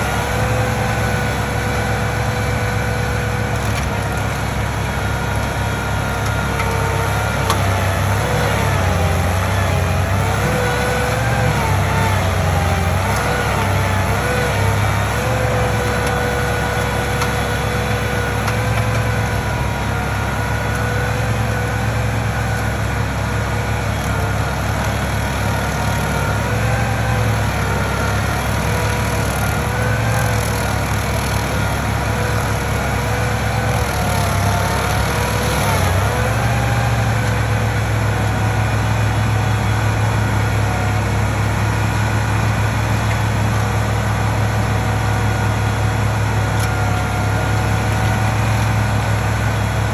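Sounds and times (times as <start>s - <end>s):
heavy machinery engine whining: 0.0s - 49.9s.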